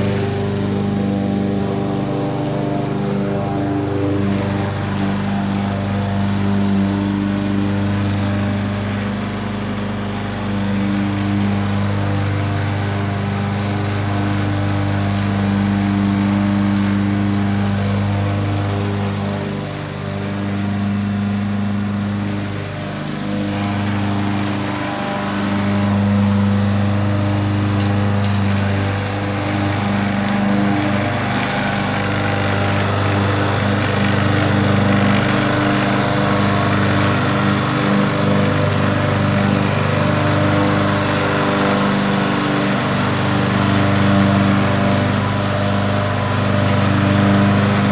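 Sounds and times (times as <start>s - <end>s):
lawn mower engine running: 0.0s - 47.9s.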